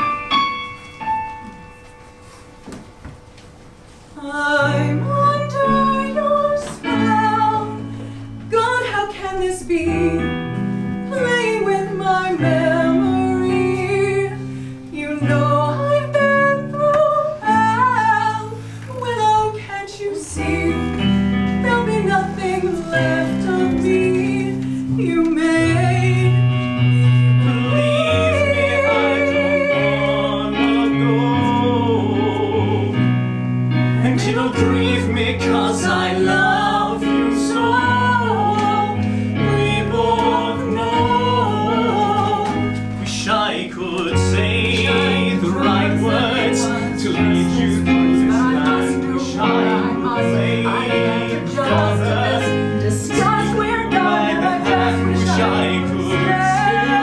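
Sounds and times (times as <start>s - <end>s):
instrumental accompaniment: 0.0s - 57.0s
people singing: 4.2s - 57.0s.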